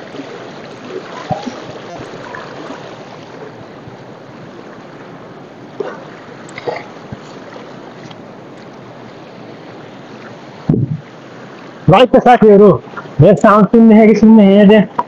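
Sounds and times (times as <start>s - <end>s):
river rushing over stones: 0.0s - 14.6s.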